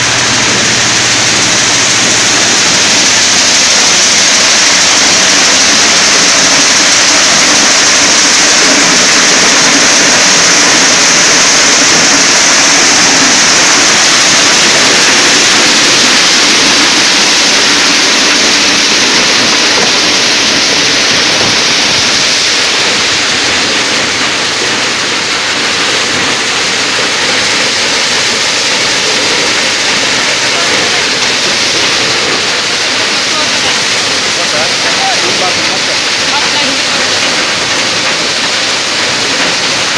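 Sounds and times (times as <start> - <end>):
maize sheller rushing noise: 0.0 - 39.9.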